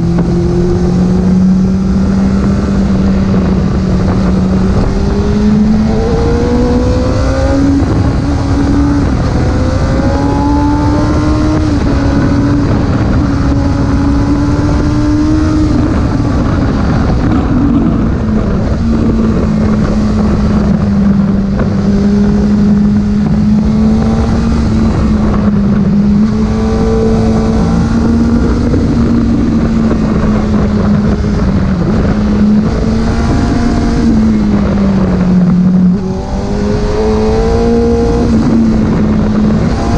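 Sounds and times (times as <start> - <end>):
car engine droning: 0.0 - 39.9
rushing road noise: 0.0 - 39.9.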